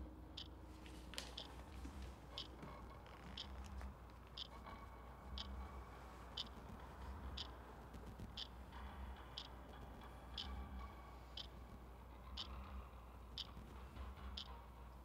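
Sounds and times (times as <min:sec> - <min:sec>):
clock ticking: 0:00.0 - 0:14.8
low room hum: 0:00.0 - 0:15.0.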